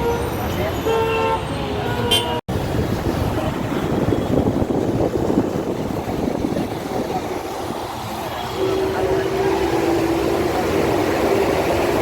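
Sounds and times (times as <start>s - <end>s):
rumbling vehicle noise: 0.0s - 12.0s.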